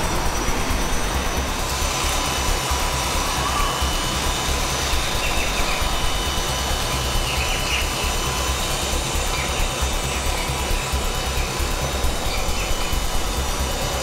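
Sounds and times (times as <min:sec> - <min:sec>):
electric motors whining: 0:00.0 - 0:14.0
rotor blades rushing: 0:00.0 - 0:14.0.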